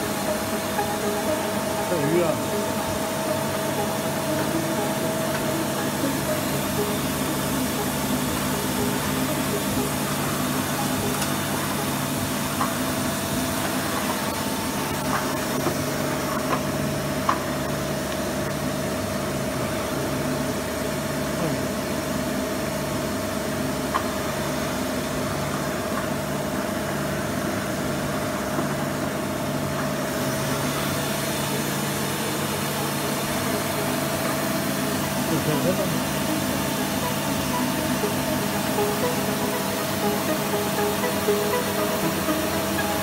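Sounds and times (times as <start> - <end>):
constant machine whine: 0.0 - 43.0
steady machine hum: 0.0 - 43.0.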